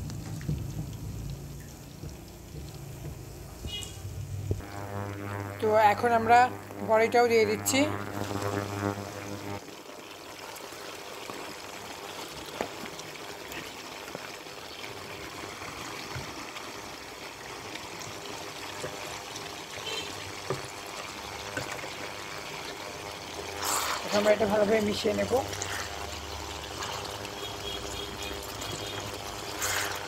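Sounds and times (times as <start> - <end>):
fruit sizzling in oil: 0.0 - 30.0.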